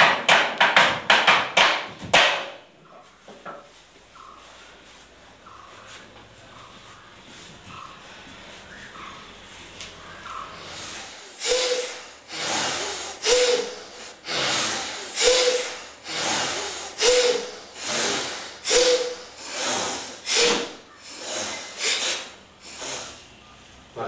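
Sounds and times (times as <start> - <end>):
deep rhythmic breathing: 2.8 - 24.0.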